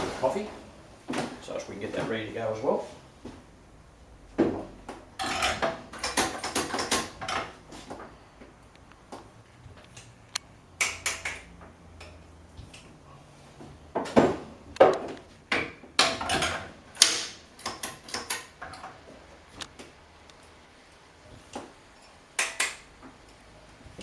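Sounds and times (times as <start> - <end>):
portafilters clicking and rattling: 4.4 - 24.0.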